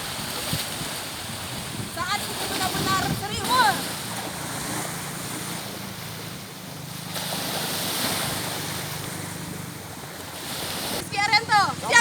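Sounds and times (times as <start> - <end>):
sea surf washing on beach: 0.0 - 12.0.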